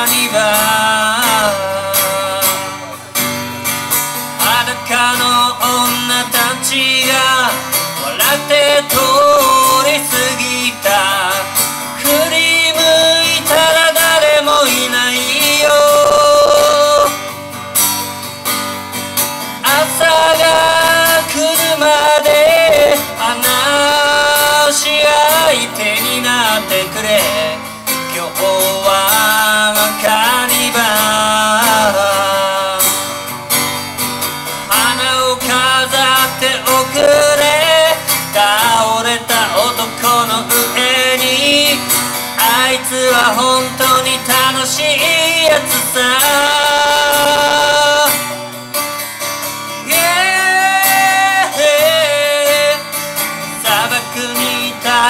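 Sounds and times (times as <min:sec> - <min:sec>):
man singing: 0:00.0 - 0:03.1, 0:04.4 - 0:17.3, 0:19.6 - 0:33.3, 0:34.6 - 0:48.4, 0:49.8 - 0:55.0
strummed acoustic guitar: 0:00.0 - 0:55.0.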